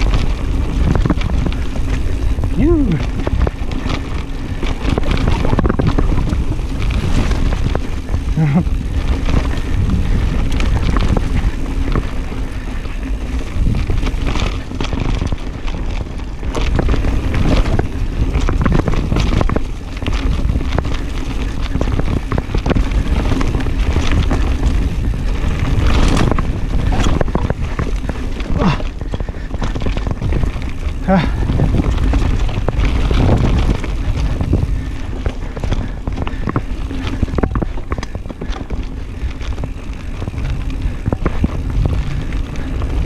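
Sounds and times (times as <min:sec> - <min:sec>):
bike knocking and clattering: 0:00.0 - 0:43.0
tyres rumbling on dirt: 0:00.0 - 0:43.0
wind buffeting the microphone: 0:00.0 - 0:43.0.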